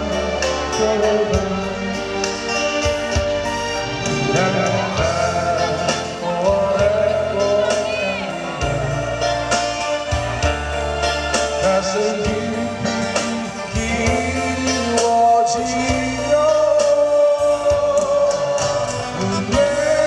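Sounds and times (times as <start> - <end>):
acoustic guitars strummed: 0.0 - 20.0
bass line: 0.0 - 20.0
person singing: 0.0 - 20.0.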